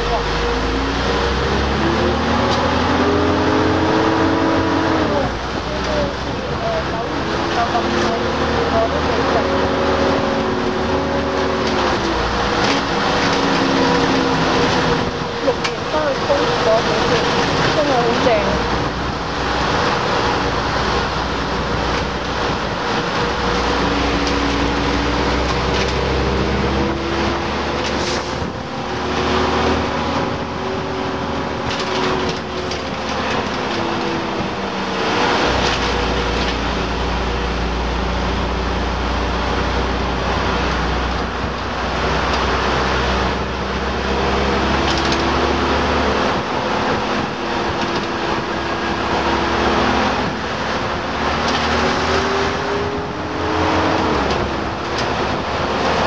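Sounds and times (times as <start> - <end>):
bus diesel engine changing gears: 0.0 - 56.0
road and wind noise: 0.0 - 56.0.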